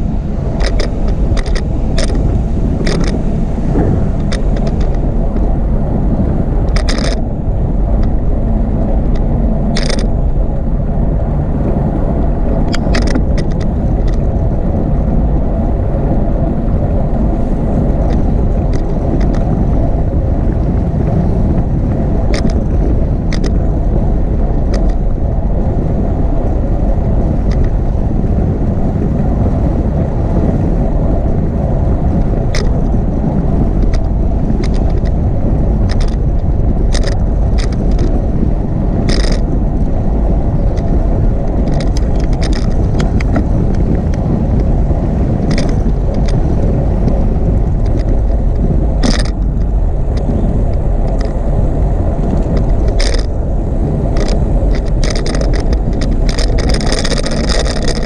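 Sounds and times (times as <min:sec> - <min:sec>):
bicycle clicks and rattles: 0:00.0 - 0:58.0
wind buffeting microphone: 0:00.0 - 0:58.0.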